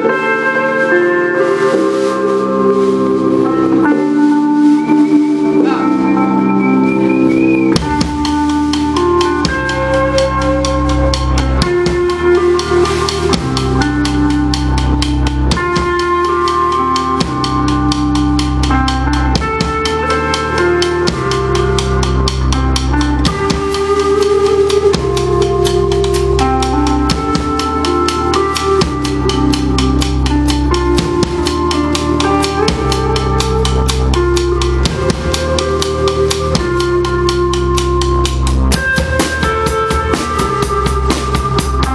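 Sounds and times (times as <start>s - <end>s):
bass notes: 0.0s - 41.9s
guitar: 0.0s - 41.9s
drum kit beat: 1.4s - 41.9s.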